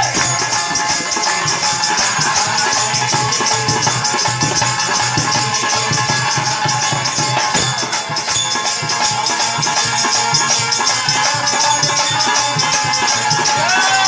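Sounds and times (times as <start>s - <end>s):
drum strokes: 0.0s - 14.0s
jingling percussion: 0.0s - 14.0s.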